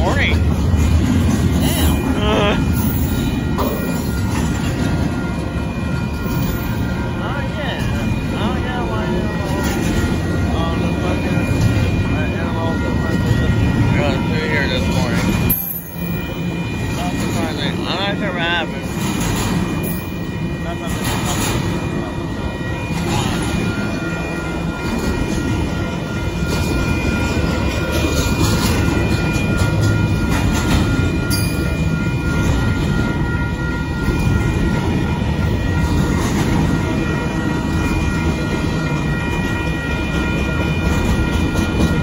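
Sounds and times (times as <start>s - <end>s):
train wheels rumbling on rails: 0.0s - 42.0s
high-pitched tones: 1.6s - 42.0s.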